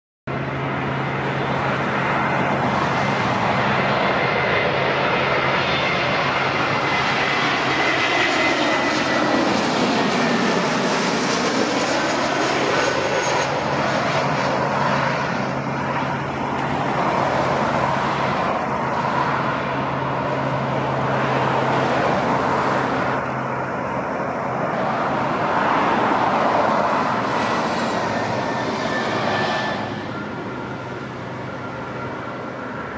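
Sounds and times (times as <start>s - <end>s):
jet airliner landing: 0.3s - 32.9s.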